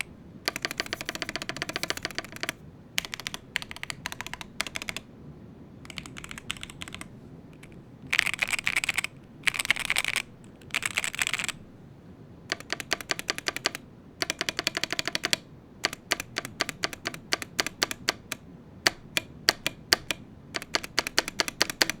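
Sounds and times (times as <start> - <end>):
keyboard typing: 0.0 - 5.0, 5.9 - 11.6, 12.5 - 22.0.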